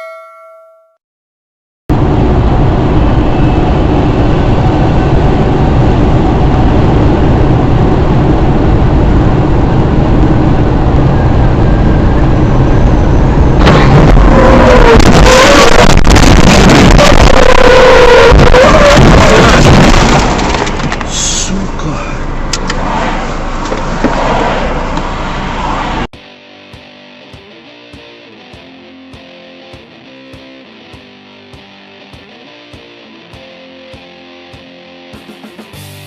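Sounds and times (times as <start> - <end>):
vehicle road and engine noise: 1.9 - 36.0.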